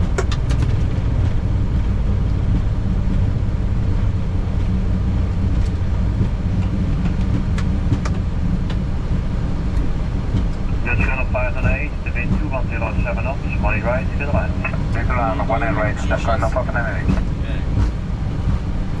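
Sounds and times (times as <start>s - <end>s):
aircraft engine noise: 0.0s - 19.0s
undercarriage rolling on runway: 0.0s - 19.0s.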